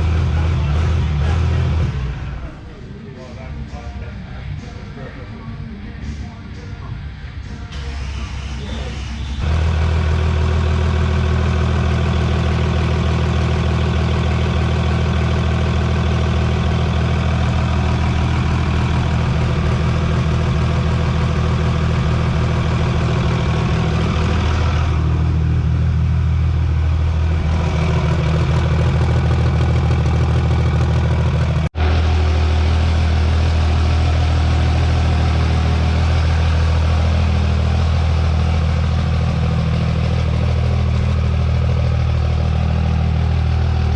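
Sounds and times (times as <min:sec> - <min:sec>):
diesel engine idling: 0:00.0 - 0:06.6, 0:07.5 - 0:43.9.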